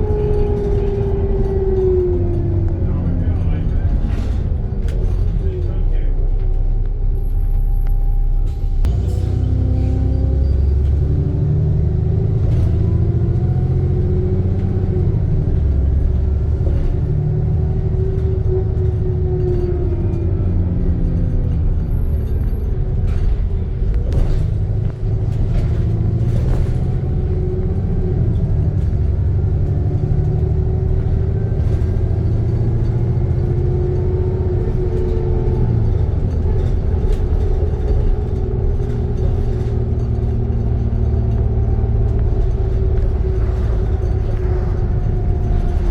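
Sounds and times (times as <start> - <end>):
rattles and clicks: 0.0 - 7.0, 10.8 - 45.9
bus engine drone and whine: 0.0 - 45.9.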